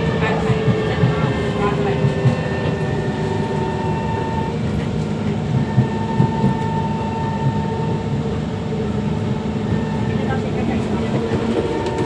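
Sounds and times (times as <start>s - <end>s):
high-pitched traction whine: 0.0s - 12.0s
train wheels rumbling on track: 0.0s - 12.0s.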